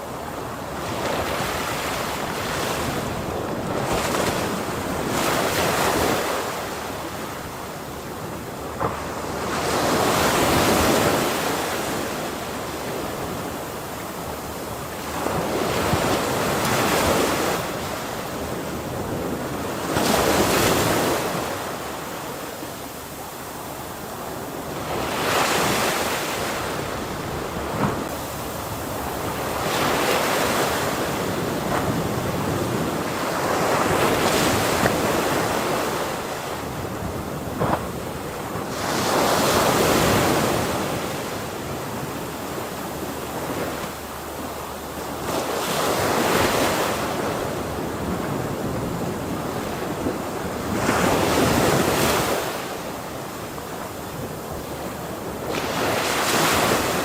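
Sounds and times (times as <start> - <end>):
ocean waves breaking on shore: 0.0 - 57.0
wind noise on microphone: 0.0 - 57.0.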